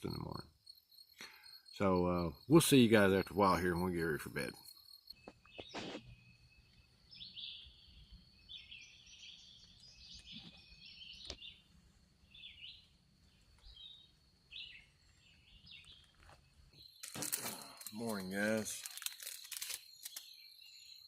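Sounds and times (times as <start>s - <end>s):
songbirds chirping faintly: 0.0s - 21.0s.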